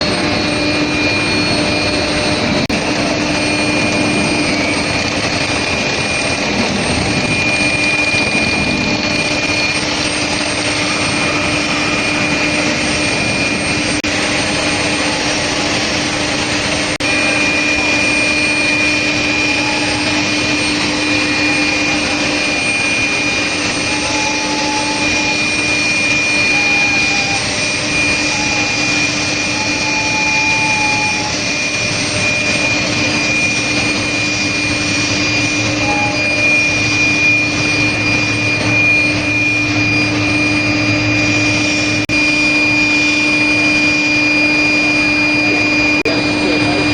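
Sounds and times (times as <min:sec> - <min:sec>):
high-pitched whine: 0:00.0 - 0:46.9
low hum: 0:00.0 - 0:46.9
machine noise: 0:00.0 - 0:46.9.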